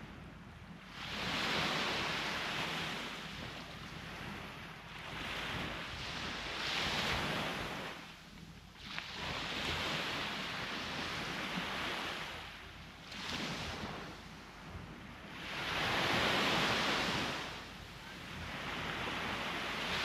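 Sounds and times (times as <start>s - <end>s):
sea waves breaking on shore: 0.0s - 20.0s.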